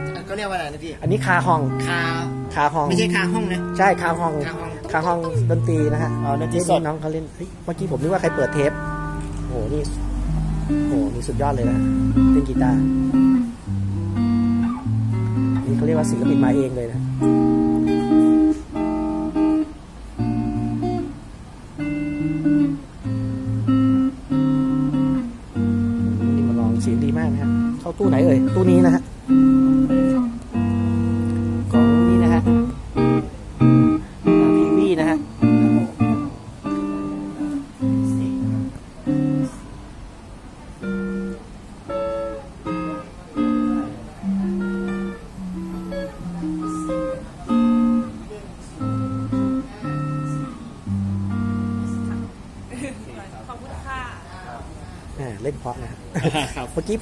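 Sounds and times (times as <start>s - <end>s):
electric guitar chords clean tone: 0.0s - 53.3s.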